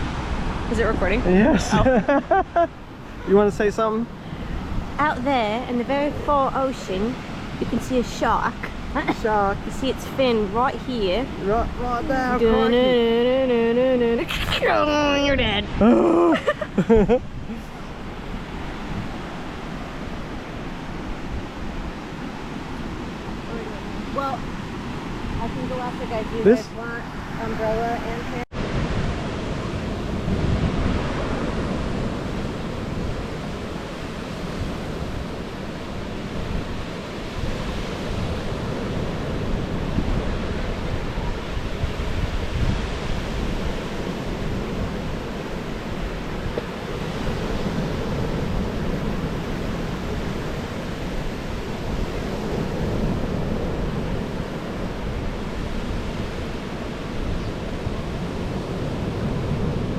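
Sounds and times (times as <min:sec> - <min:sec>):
surf washing onto beach: 0:00.0 - 0:59.9
wind rumbling on microphone: 0:00.0 - 0:59.9.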